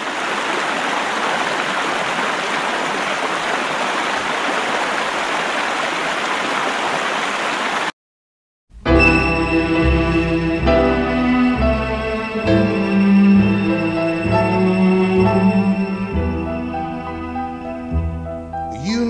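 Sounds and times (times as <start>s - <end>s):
rushing water: 0.0s - 7.9s, 9.0s - 18.9s.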